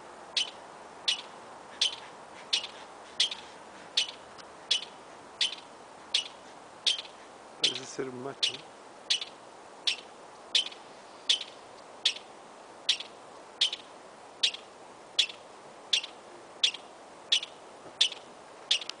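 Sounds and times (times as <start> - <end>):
ground squirrel chirps: 0.3 - 19.0.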